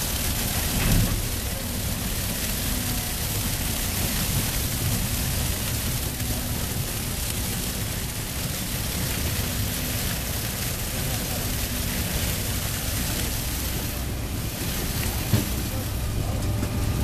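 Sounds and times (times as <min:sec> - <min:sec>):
constant hiss: 0:00.0 - 0:17.0
harvester mechanical rumble: 0:00.0 - 0:17.0.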